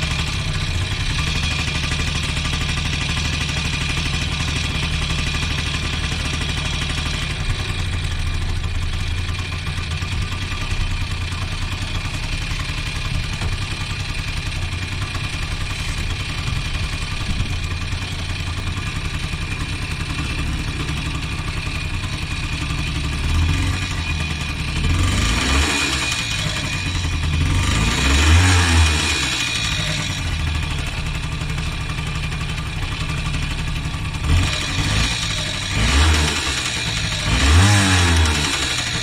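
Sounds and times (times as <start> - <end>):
moped engine revving: 0.0 - 39.0.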